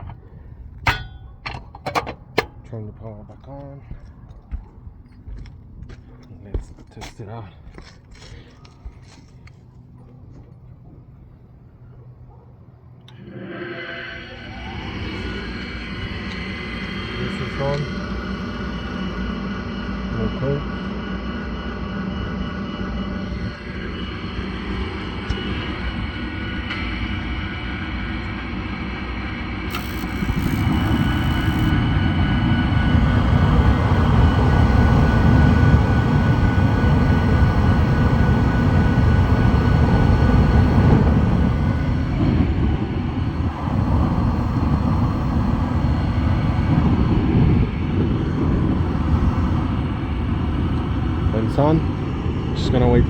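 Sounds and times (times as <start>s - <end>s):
furnace rough rumble: 0.0s - 53.0s
motor hum with faint whine: 0.0s - 53.0s.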